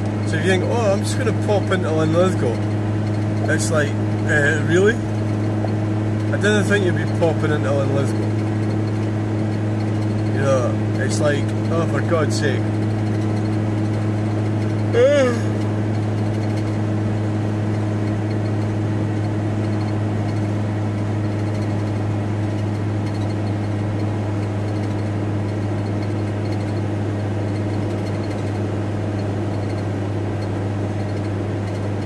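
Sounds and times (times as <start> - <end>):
van engine and road drone: 0.0 - 32.0.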